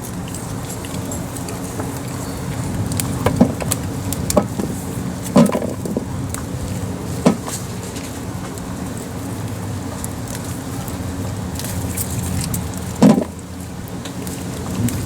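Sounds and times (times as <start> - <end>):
branches rustling and knocking: 0.0 - 9.2, 9.8 - 15.0.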